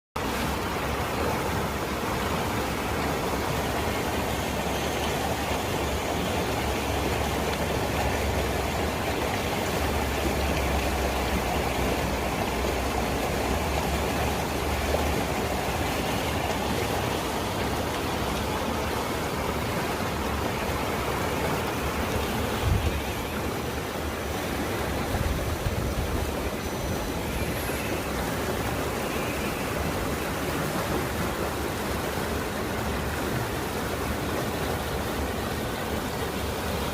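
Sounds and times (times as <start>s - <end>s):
flowing water rushing: 0.2s - 36.9s.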